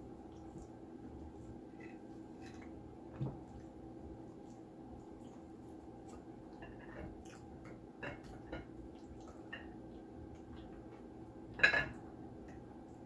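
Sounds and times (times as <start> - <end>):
person chewing food: 0.2 - 11.1.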